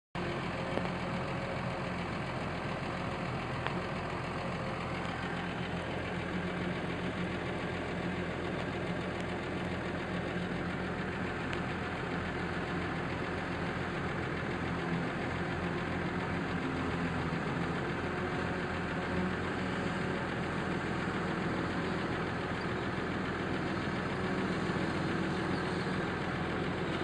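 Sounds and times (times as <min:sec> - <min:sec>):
tractor engine running: 0:00.2 - 0:27.0.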